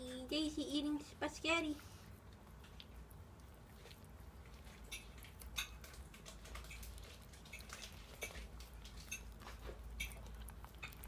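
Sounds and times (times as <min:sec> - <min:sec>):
dog chewing wet smacks: 0:01.7 - 0:11.0.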